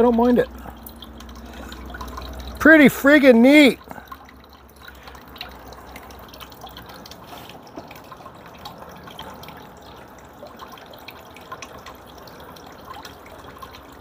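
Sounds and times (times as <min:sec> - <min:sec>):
water dripping into plastic bucket: 0:00.0 - 0:14.0
water trickling over wood: 0:00.0 - 0:14.0.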